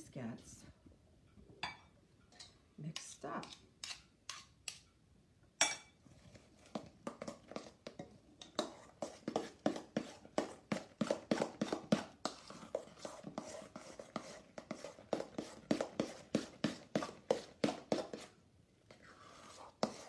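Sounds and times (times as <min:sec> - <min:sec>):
spoon stirring in metal bowl: 0:01.6 - 0:05.0, 0:05.6 - 0:20.0.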